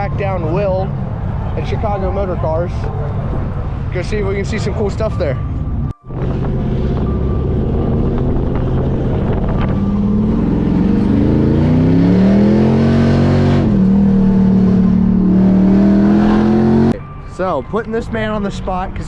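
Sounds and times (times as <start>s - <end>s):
car engine accelerating: 0.0s - 17.2s.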